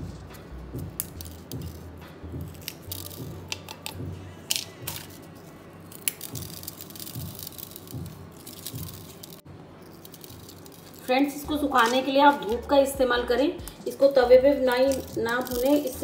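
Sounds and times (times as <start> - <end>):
soft background music: 0.0 - 16.0
dry chillies snapping: 0.9 - 13.0, 13.6 - 16.0.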